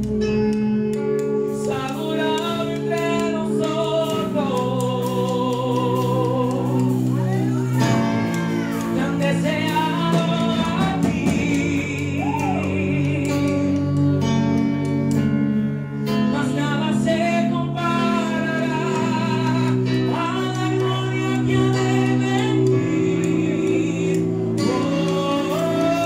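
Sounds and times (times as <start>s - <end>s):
man singing into a microphone: 1.5s - 14.4s, 16.1s - 26.0s.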